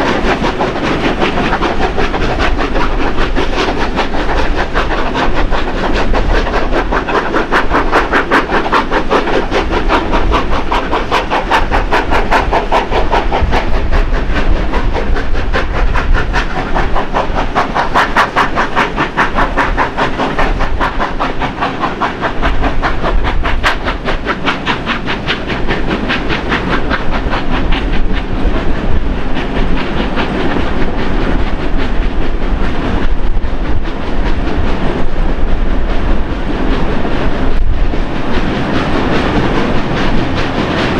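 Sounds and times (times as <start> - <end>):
steam locomotive exhaust beats: 0.0 - 40.9
train wheels clattering on rails: 0.0 - 40.9.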